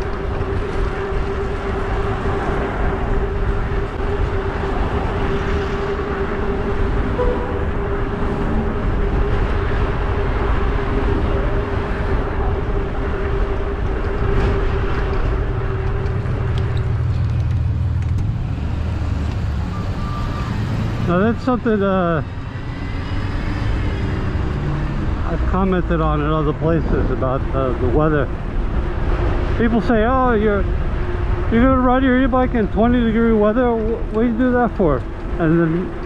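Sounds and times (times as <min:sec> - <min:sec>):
road rumble: 0:00.0 - 0:36.0
steady motor whine: 0:00.0 - 0:36.0.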